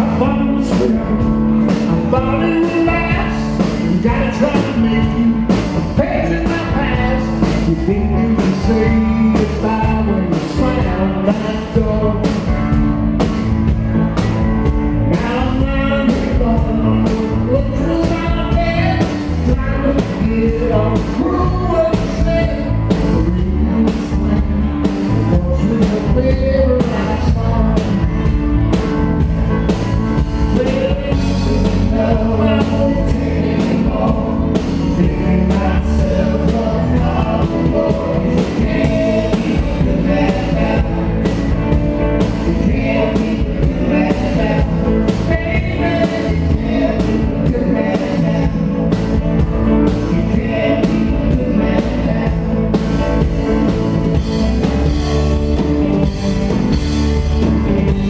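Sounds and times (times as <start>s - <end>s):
acoustic guitar: 0.0s - 58.0s
bass guitar: 0.0s - 58.0s
electric guitar: 0.0s - 58.0s.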